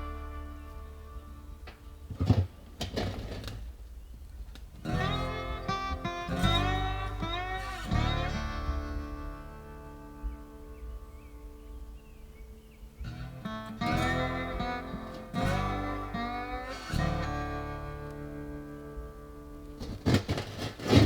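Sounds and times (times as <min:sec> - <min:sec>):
blues-country guitar music: 0:00.0 - 0:21.0.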